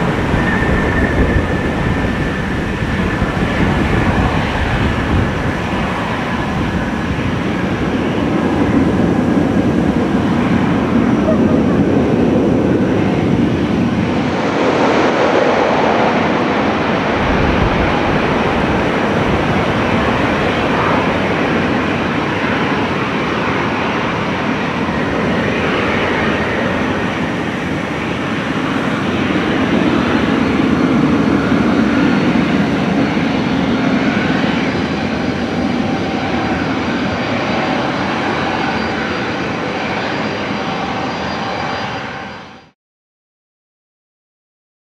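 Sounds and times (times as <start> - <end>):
jet engine rush: 0.0 - 42.8.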